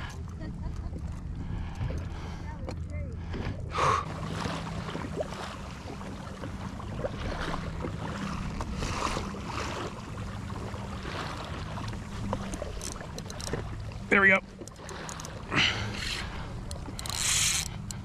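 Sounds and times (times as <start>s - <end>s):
low steady hum: 0.0s - 18.0s
water splashing against kayak hull: 0.0s - 18.0s.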